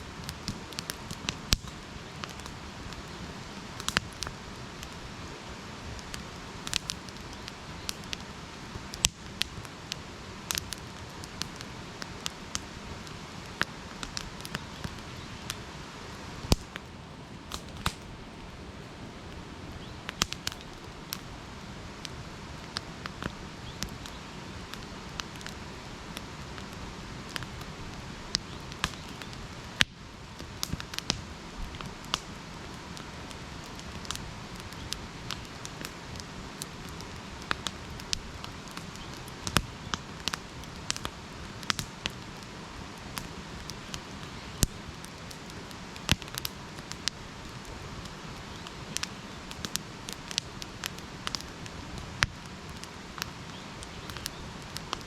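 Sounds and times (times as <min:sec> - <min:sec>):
campfire crackling: 0:00.0 - 0:55.0
sharp pops of fire: 0:00.1 - 0:05.0, 0:06.0 - 0:15.6, 0:16.4 - 0:16.9, 0:17.5 - 0:18.2, 0:19.8 - 0:21.3, 0:26.2 - 0:55.0.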